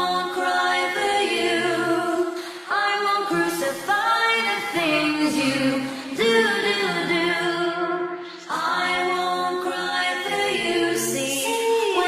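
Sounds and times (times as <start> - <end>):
voices singing in harmony: 0.0 - 12.0.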